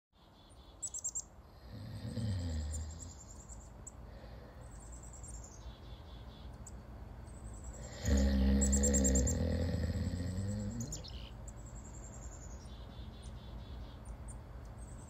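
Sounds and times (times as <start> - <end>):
birds chirping: 0.2 - 15.0
faint low rumble: 0.2 - 15.0.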